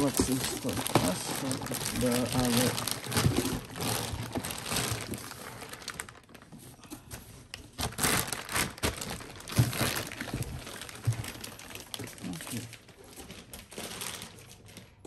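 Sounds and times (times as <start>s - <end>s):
plastic bag crinkling: 0.0s - 6.8s, 7.6s - 15.0s.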